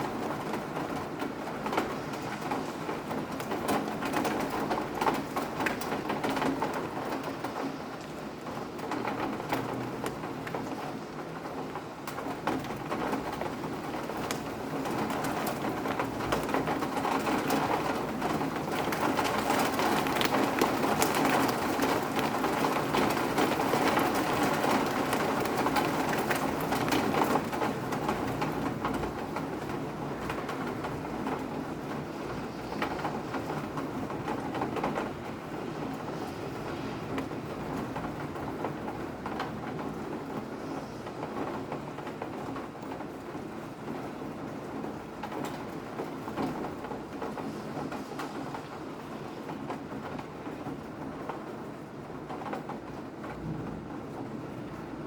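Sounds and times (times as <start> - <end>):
rain drops ticking and dripping: 0.0 - 55.0.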